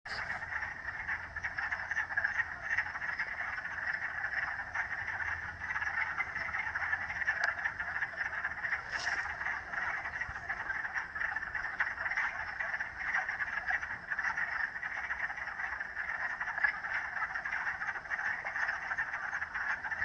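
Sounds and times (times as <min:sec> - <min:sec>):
frogs croaking in chorus: 0:00.1 - 0:20.0.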